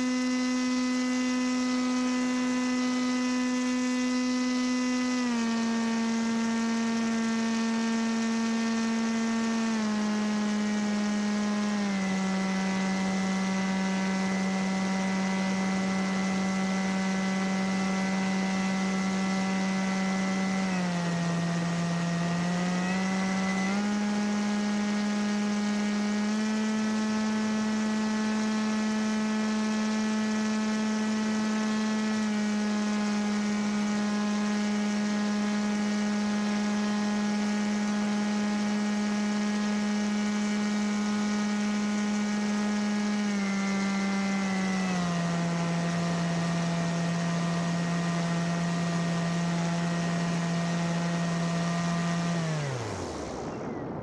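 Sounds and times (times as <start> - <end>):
paramotor engine drone: 0.0 - 54.0.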